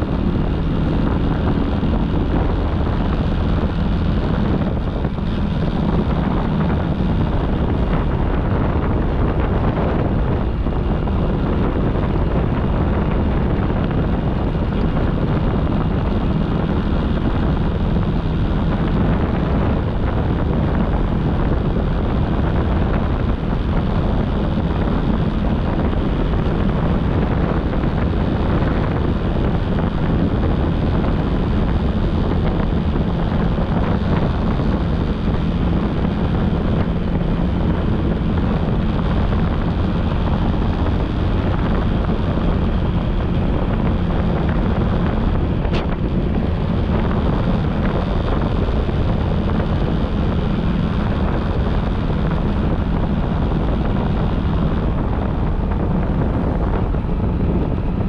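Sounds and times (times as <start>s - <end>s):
motorcycle engine hum: 0.0s - 58.0s
wind rushing over microphone: 0.0s - 58.0s.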